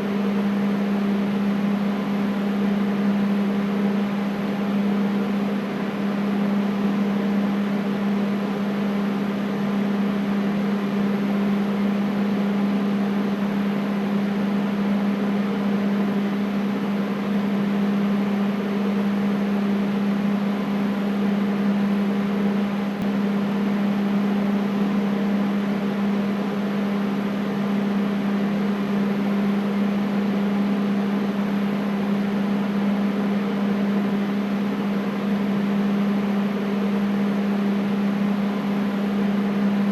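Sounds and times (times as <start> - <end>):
air conditioner airflow: 0.0 - 39.9
motor hum: 0.0 - 39.9.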